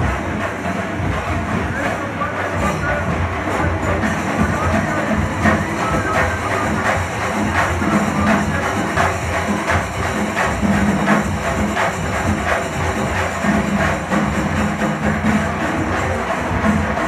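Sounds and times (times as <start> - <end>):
drums and cymbals beating: 0.0 - 17.0.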